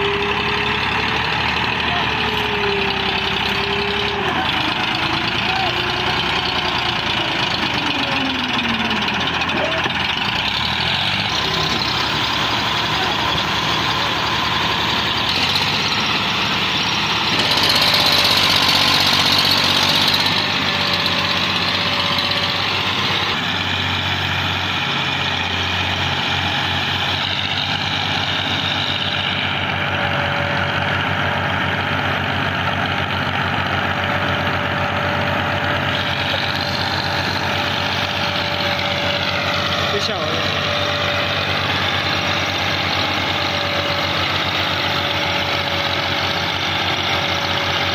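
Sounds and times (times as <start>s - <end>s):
tractor engines under heavy load: 0.0s - 47.9s.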